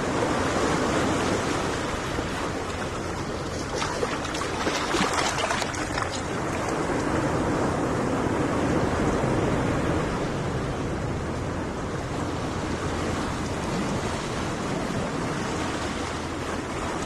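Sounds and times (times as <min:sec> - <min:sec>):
ocean waves washing onto beach: 0:00.0 - 0:17.0.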